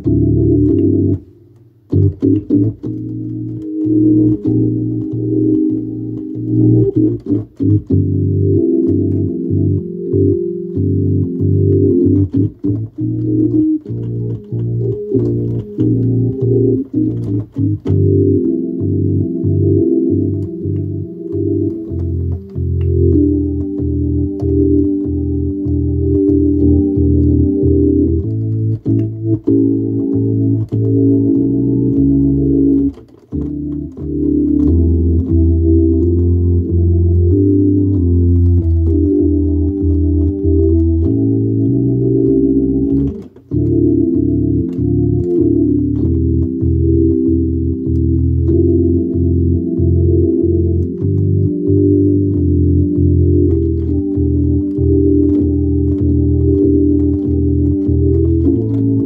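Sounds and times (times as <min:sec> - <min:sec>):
low bass line: 0:00.0 - 0:59.0
organ playing chords: 0:00.0 - 0:59.0.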